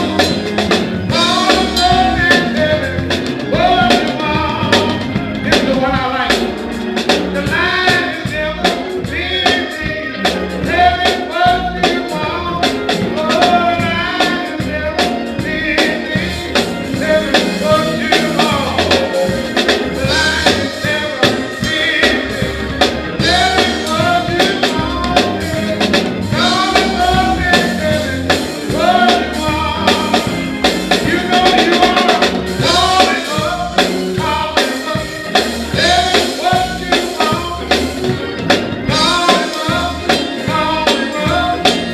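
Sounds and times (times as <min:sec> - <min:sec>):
band with steady drum beat: 0:00.0 - 0:41.9
gospel singing: 0:00.0 - 0:41.9.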